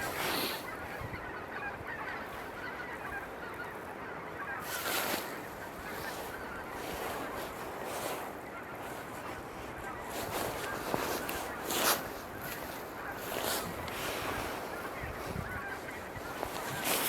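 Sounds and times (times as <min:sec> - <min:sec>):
flock of waterfowl honking: 0:00.0 - 0:17.0.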